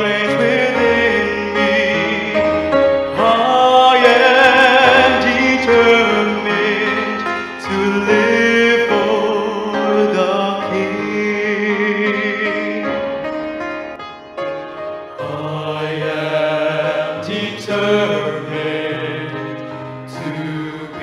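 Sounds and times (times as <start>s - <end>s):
man singing a hymn: 0.0s - 13.3s, 15.2s - 21.0s
instrumental accompaniment: 0.0s - 21.0s.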